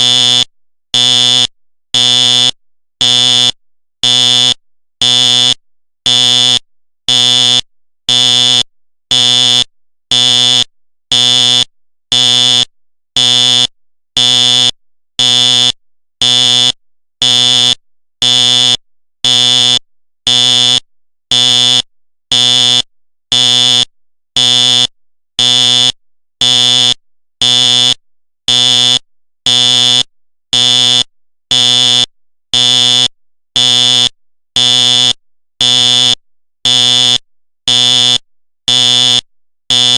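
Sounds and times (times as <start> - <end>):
fire alarm horn buzzing: 0.0 - 12.6, 13.2 - 23.8, 24.4 - 27.9, 28.5 - 28.9, 29.5 - 30.0, 30.6 - 32.0, 32.6 - 35.0, 35.6 - 39.9.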